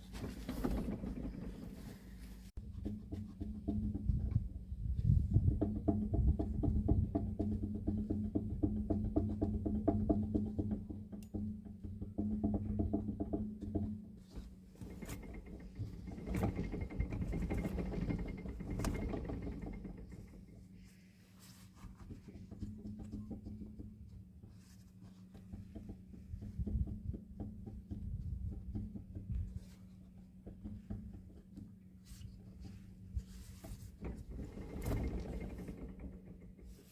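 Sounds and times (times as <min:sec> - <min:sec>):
car wheel knocking and clatter: 0:00.0 - 0:20.8, 0:21.9 - 0:36.9.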